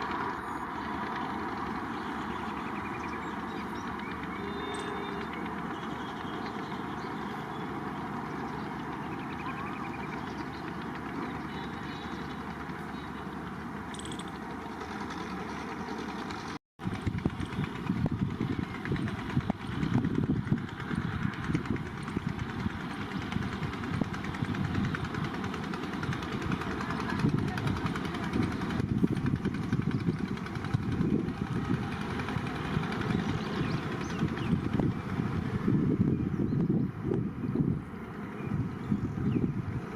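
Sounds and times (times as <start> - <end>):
train mechanical rumble: 0.0 - 39.9.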